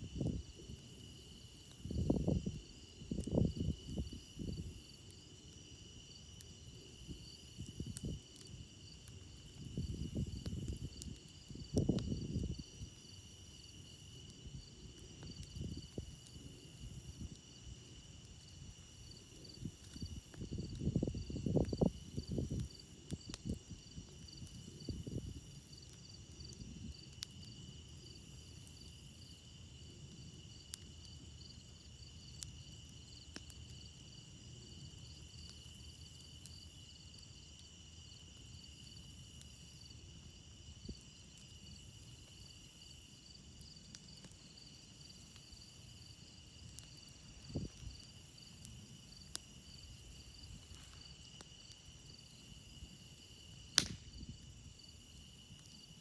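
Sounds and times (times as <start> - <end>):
crickets trilling: 0.0 - 56.0
campfire pops and crackles: 0.1 - 56.0.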